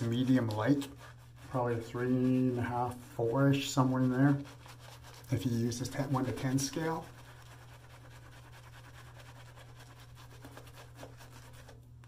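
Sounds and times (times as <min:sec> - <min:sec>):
brush scrubbing wet lather: 0:00.0 - 0:12.0.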